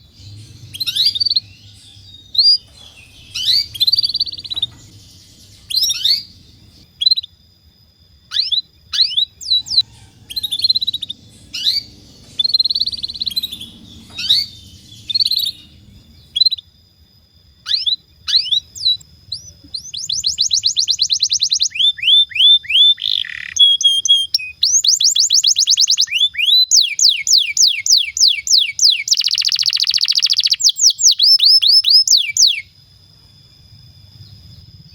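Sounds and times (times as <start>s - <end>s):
canary singing: 0.0s - 7.4s, 8.3s - 16.7s, 17.6s - 32.8s.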